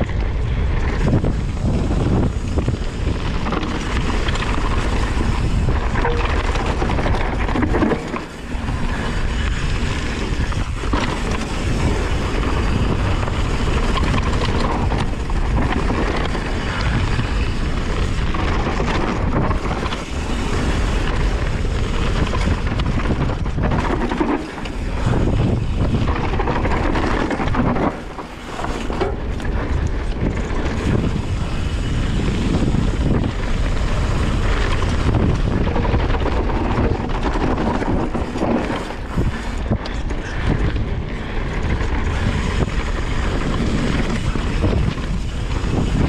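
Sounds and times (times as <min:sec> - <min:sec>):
bike knocks and rattles: 0:00.0 - 0:46.0
bike tyres rolling on dirt: 0:00.0 - 0:46.0
wind buffeting microphone: 0:00.0 - 0:46.0.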